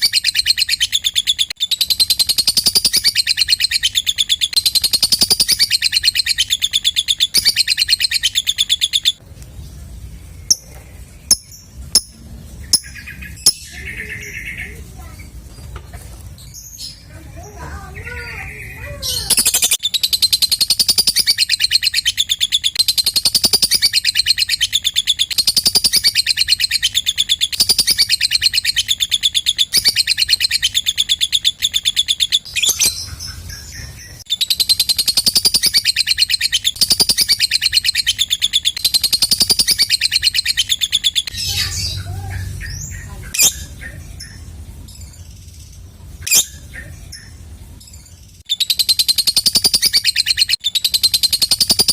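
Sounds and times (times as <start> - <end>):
bird chattering trill: 0.0 - 9.2, 10.5 - 15.4, 16.8 - 51.9
bird chirps: 0.0 - 51.9.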